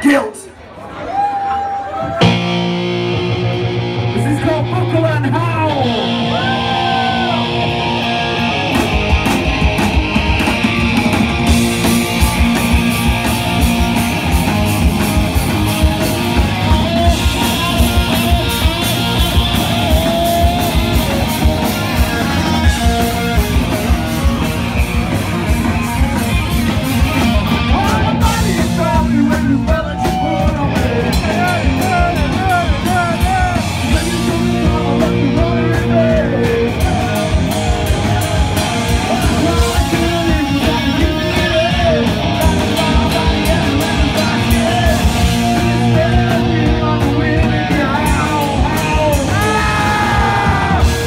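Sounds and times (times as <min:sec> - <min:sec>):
drum kit: 0:02.2 - 0:51.0
electric guitar riff: 0:02.2 - 0:51.0.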